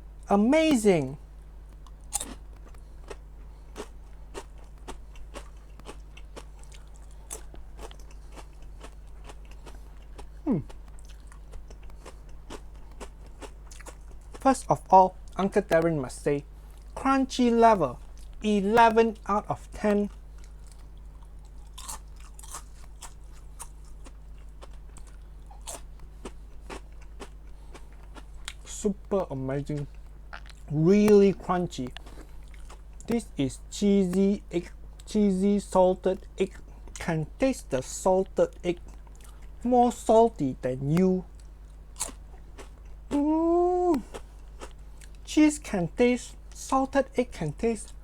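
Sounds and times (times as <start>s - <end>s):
steady low hum: 0.0s - 48.0s
chewing crunchy crisps: 1.4s - 45.3s.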